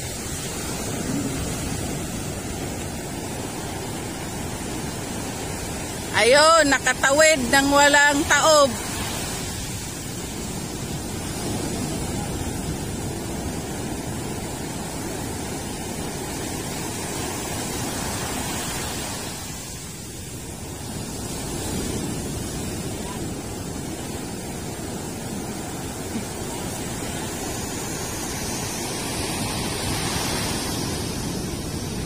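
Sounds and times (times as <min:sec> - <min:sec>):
rough sea surf washing in: 0:00.0 - 0:32.0.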